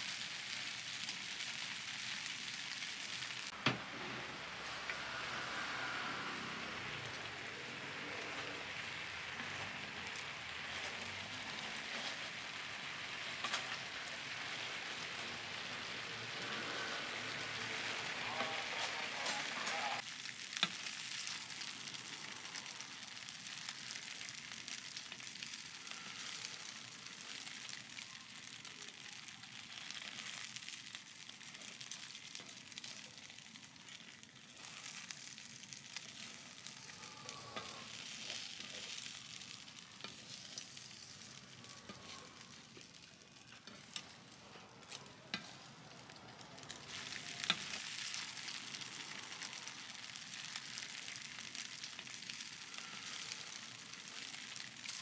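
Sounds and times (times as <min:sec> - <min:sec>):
buns sizzling in oil: 0:00.0 - 0:55.0.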